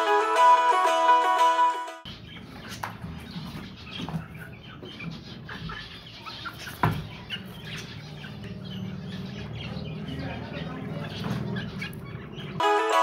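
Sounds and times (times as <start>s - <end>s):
chicks cheeping: 2.0s - 13.0s
chickens clucking: 2.1s - 13.0s.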